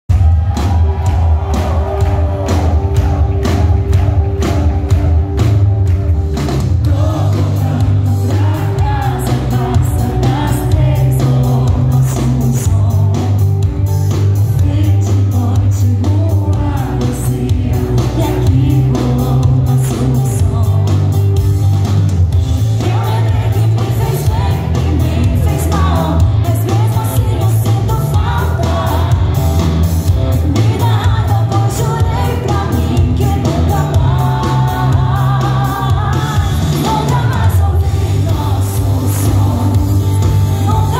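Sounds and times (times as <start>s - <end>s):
live pop band playing: 0.1s - 40.9s
woman singing amplified lead vocal: 6.8s - 21.4s, 22.6s - 40.9s.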